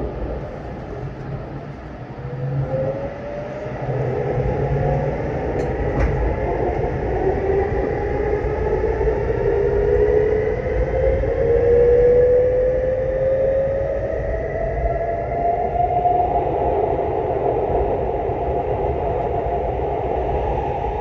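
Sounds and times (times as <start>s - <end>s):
rumble of train wheels: 0.0s - 21.0s.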